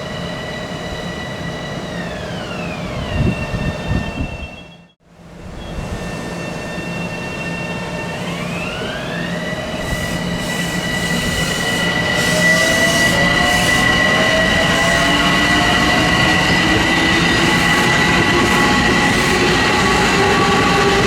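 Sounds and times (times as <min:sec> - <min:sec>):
train motors whining: 0:00.0 - 0:04.9, 0:05.9 - 0:21.0
train rumble and wheel noise: 0:00.0 - 0:21.0.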